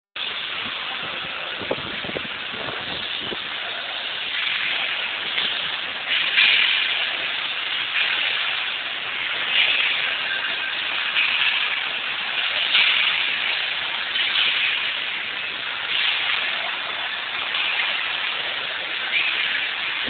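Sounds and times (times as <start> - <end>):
steady hiss: 0.2 - 20.0.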